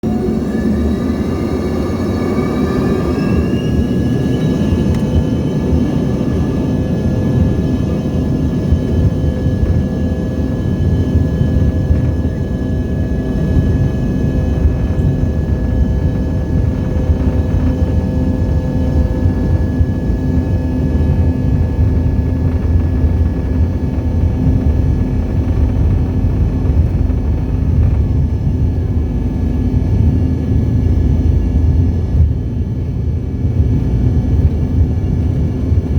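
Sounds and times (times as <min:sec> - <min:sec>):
jet engines spooling up: 0:00.0 - 0:32.4.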